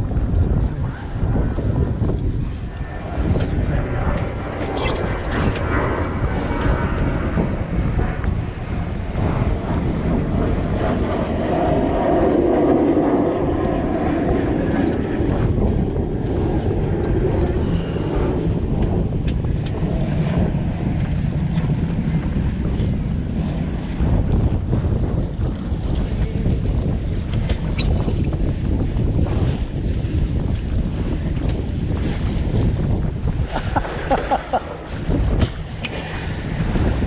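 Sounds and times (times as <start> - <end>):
water rushing along hull: 0.0 - 37.0
wind buffeting microphone: 0.0 - 37.0.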